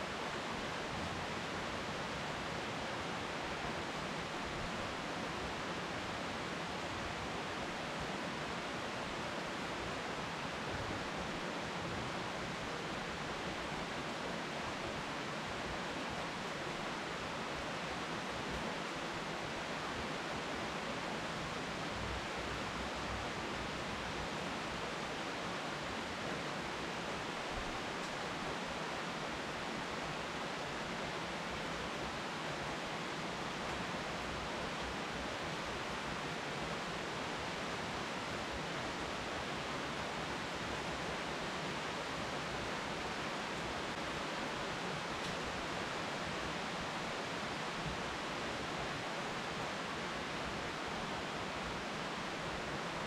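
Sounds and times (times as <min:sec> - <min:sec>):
rain on leafy trees: 0:00.0 - 0:53.0.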